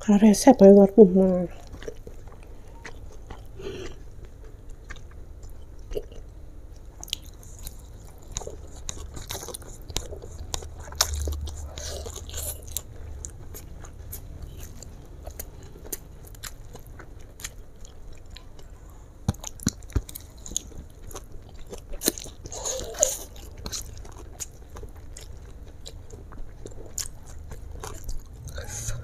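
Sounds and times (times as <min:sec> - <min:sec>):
chewing noodles: 0:01.5 - 0:29.0.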